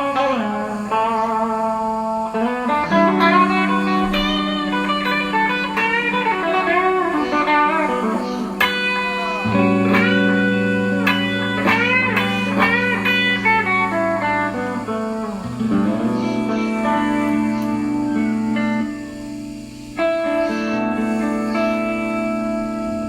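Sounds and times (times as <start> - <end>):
bluesy electric guitar: 0.0 - 23.0.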